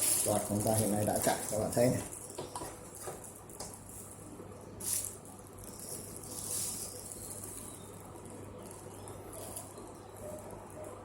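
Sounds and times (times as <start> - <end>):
air cooler fan humming: 0.0 - 11.0.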